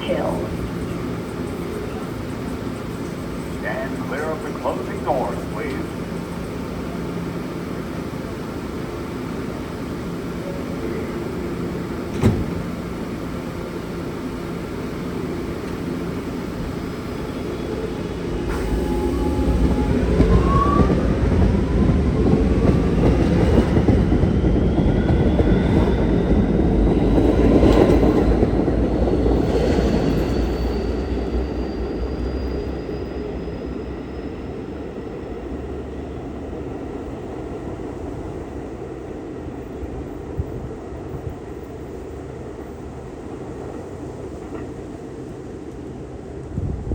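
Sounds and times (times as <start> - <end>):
train cars rumbling and rattling: 0.0 - 46.9.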